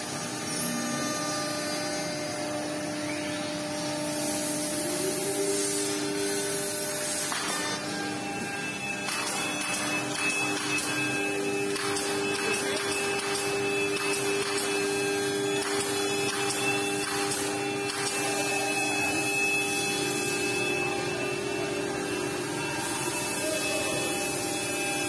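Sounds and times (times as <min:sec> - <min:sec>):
cnc router spindle cutting wood: 0:00.0 - 0:25.0.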